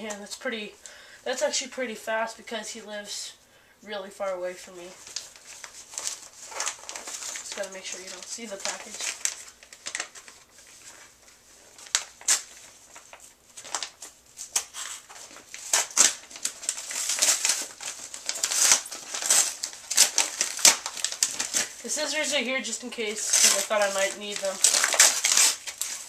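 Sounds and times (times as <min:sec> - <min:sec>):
wrapping paper crinkling tearing: 0:04.8 - 0:26.0.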